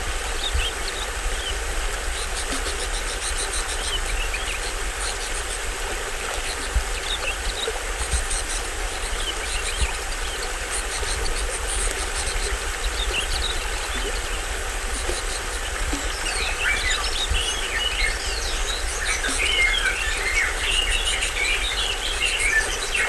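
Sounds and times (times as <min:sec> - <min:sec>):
insects trilling: 0:00.0 - 0:23.0
waterfall splashing: 0:00.0 - 0:23.0
birds chirping: 0:00.2 - 0:23.0.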